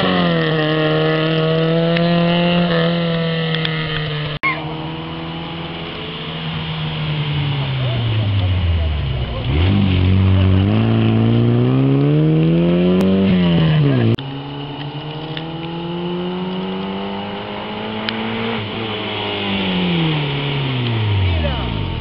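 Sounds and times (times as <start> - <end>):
distant rally car approaching: 0.0 - 22.0
rally car engine accelerating: 0.0 - 22.0.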